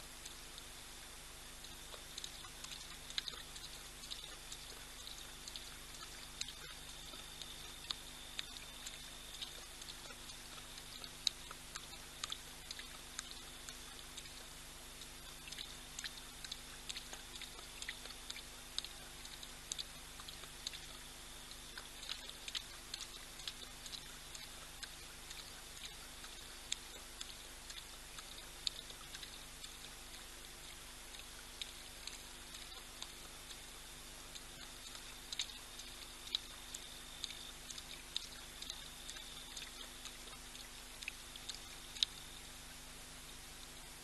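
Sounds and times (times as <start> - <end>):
lion lapping water: 0.0 - 44.0
low steady hum: 0.0 - 44.0.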